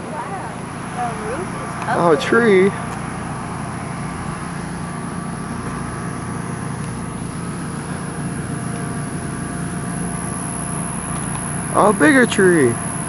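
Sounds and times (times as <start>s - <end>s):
faint steady tones: 0.0s - 13.0s
motor hum: 0.0s - 13.0s.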